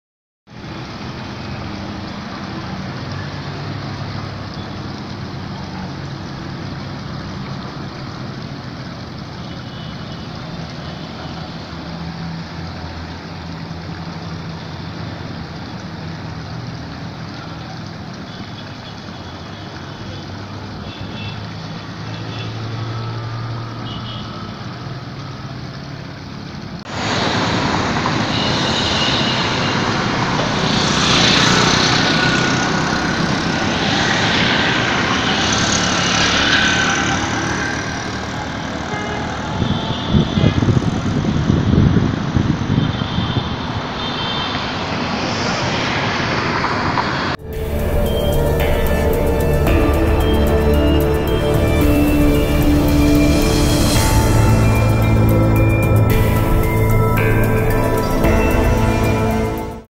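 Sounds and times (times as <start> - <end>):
engines humming: 0.5 - 59.9
outdoor noise: 0.5 - 59.9.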